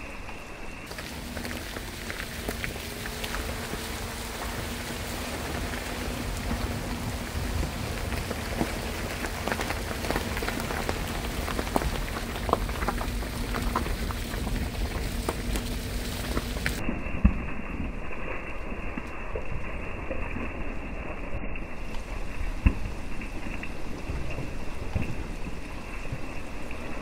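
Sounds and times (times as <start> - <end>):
low rumble: 0.0 - 27.0
rain pattering on leaves: 0.3 - 16.8, 17.4 - 27.0.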